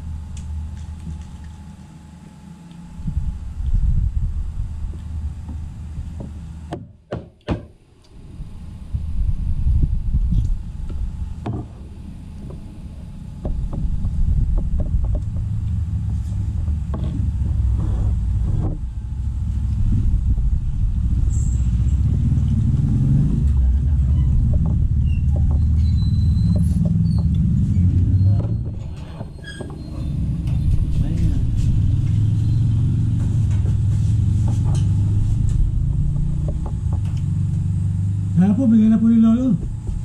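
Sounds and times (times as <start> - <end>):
loud uneven low rumble: 0.0 - 6.7, 8.1 - 40.0.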